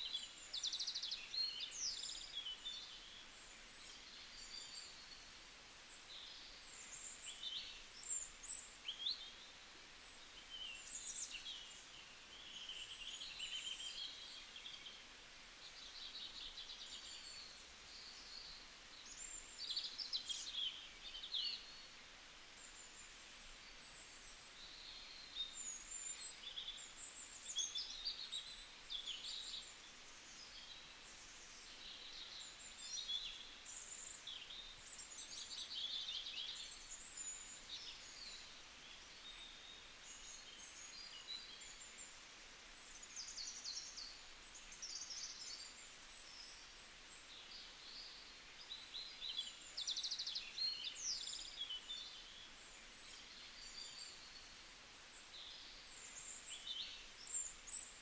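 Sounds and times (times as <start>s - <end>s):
forest ambience hiss: 0.0s - 58.0s
songbirds chirping and warbling: 0.0s - 58.0s.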